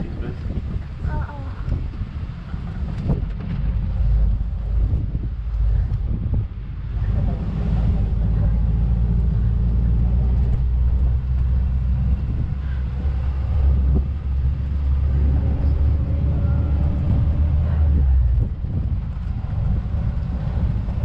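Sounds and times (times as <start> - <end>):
car engine rumble: 0.0 - 21.0
road noise: 0.0 - 21.0.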